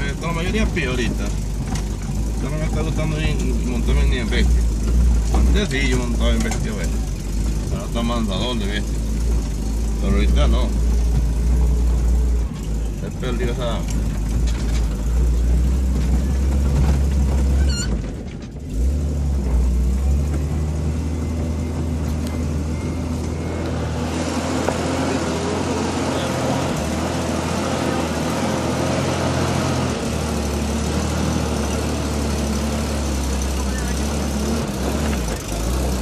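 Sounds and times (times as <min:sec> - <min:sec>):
vehicle engine running: 0:00.0 - 0:36.0
tyres on gravel and stones: 0:00.1 - 0:29.0, 0:31.8 - 0:36.0.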